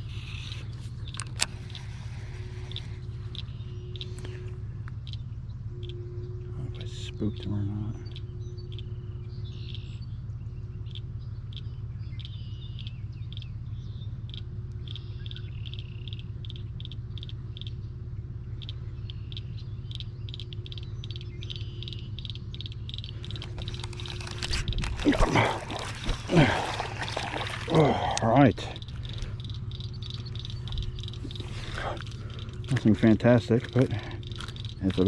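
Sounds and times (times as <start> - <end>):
birds chirping: 0.0 - 35.0
steady low rumble: 0.0 - 35.0.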